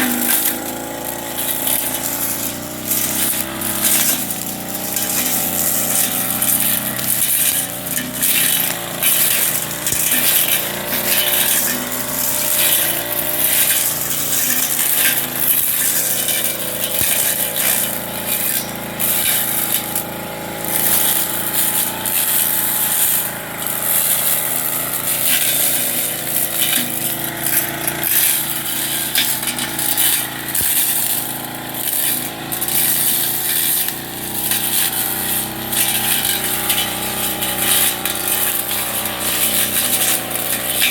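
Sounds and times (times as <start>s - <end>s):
blade slashing through weeds: 0.0s - 40.9s
brush cutter engine running: 0.0s - 40.9s.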